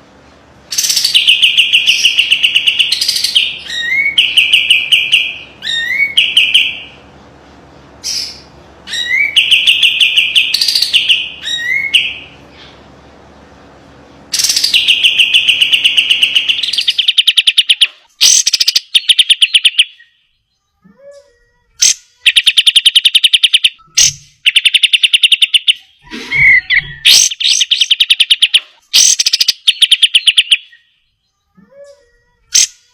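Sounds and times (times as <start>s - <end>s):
bird chattering song: 0.7s - 7.0s, 8.0s - 12.8s, 14.3s - 32.9s.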